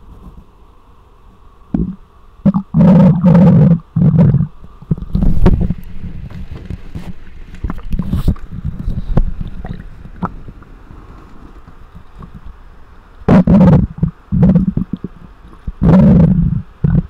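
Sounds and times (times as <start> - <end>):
stomach growling and gurgling: 1.7 - 12.6, 13.3 - 17.0.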